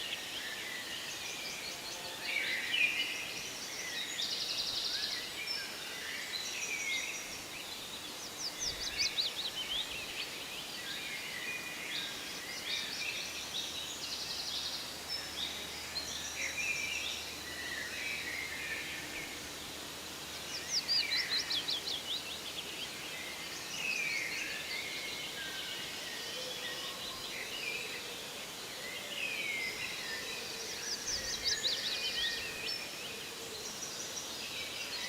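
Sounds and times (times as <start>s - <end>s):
faint steady hiss: 0.0s - 35.0s
songbirds singing: 0.0s - 35.0s.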